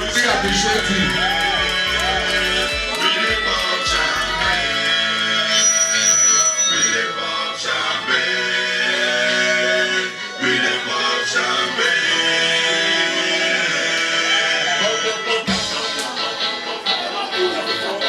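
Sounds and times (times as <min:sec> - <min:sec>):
person singing over instruments: 0:00.0 - 0:06.0, 0:06.7 - 0:18.0.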